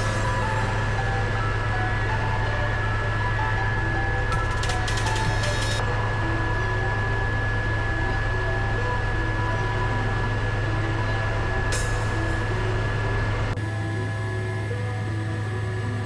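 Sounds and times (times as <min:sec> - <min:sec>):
helicopter drone: 0:00.0 - 0:16.0
high whine: 0:00.0 - 0:16.0.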